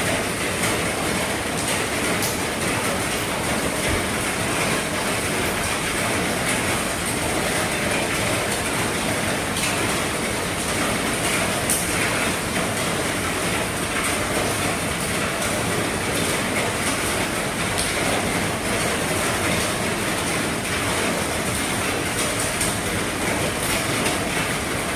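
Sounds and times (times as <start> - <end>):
heavy rain on a vehicle roof: 0.0 - 24.9.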